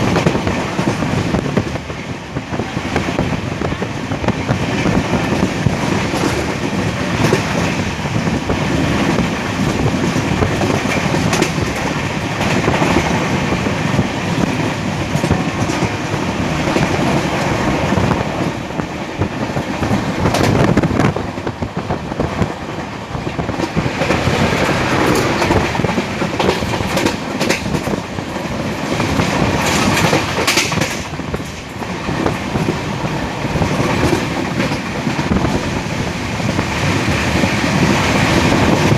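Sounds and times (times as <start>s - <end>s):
train running noise: 0.0s - 38.9s
train wheels clattering on rails: 0.0s - 38.9s.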